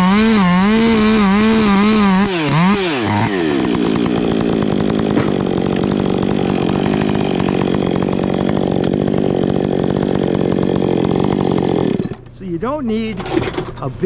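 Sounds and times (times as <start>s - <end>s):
chainsaw cutting wood: 0.0s - 12.4s.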